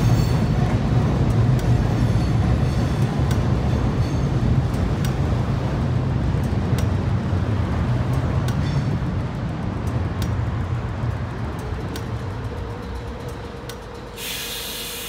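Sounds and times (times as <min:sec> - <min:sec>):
tram rumbling past: 0:00.0 - 0:15.0
wheels clicking on rails: 0:00.0 - 0:15.0.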